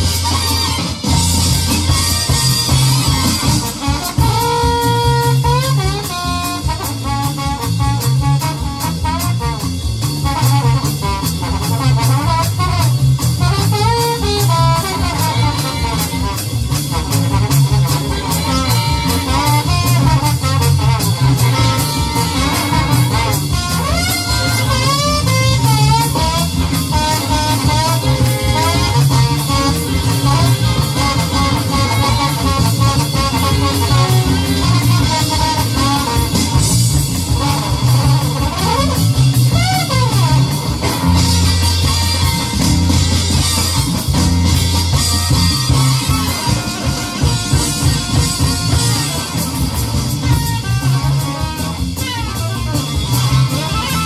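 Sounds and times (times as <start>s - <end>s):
big band jazz: 0.0s - 54.0s
electronic drum kit drumming: 0.0s - 54.0s.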